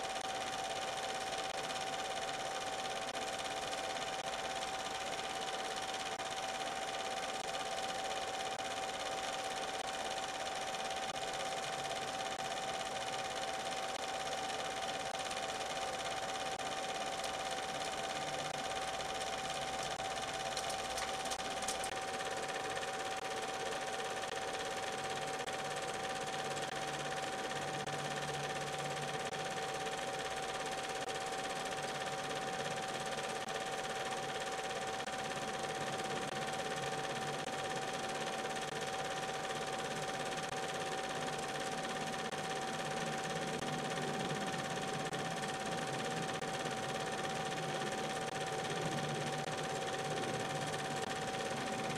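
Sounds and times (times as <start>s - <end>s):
film projector whirring: 0.0s - 51.9s.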